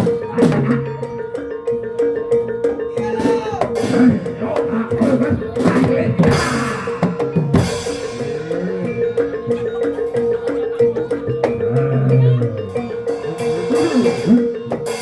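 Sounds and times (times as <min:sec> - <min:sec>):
hand drums: 0:00.0 - 0:15.0
struck metal percussion: 0:00.0 - 0:15.0.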